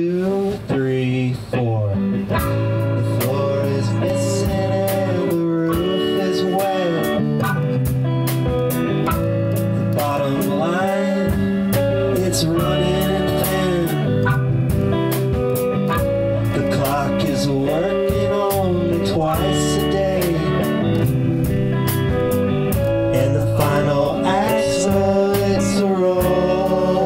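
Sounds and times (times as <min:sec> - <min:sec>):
guitar notes bending: 0:00.0 - 0:27.0
blues-rock band playing: 0:01.6 - 0:27.0.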